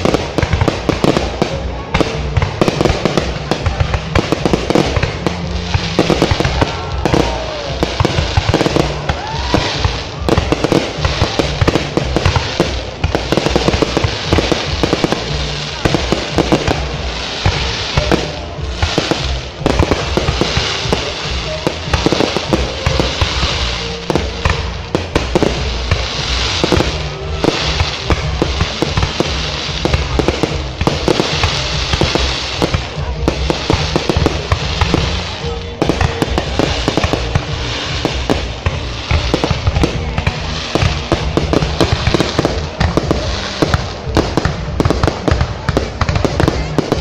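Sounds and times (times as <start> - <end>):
fireworks popping and crackling: 0.0 - 47.0
music: 0.0 - 47.0.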